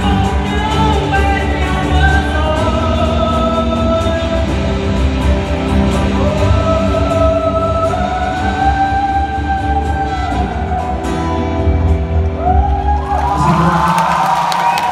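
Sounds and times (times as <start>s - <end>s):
live rock band playing: 0.0s - 13.3s.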